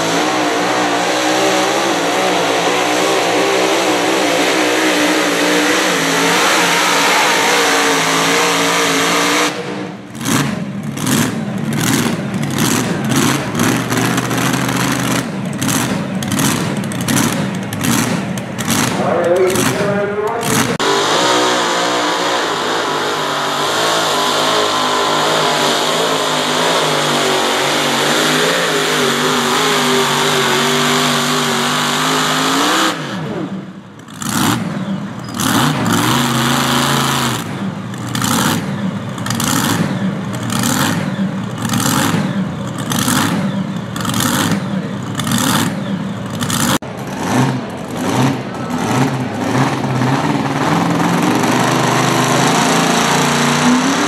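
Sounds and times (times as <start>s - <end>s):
tractor engine revving hard: 0.0s - 54.0s.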